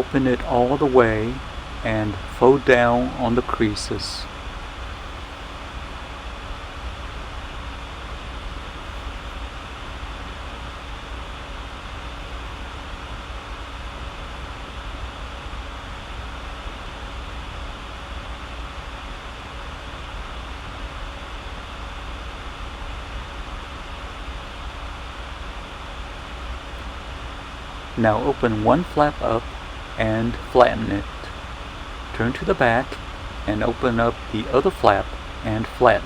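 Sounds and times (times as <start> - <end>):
faint constant hum: 0.0 - 36.0
steady background hiss: 0.0 - 36.0.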